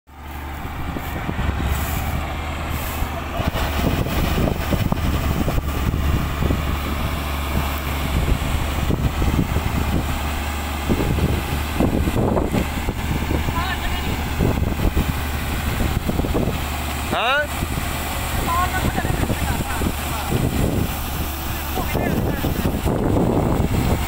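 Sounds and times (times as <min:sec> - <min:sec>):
combine harvester engine hum: 0:00.1 - 0:24.0
machinery rattling and clatter: 0:00.1 - 0:24.0.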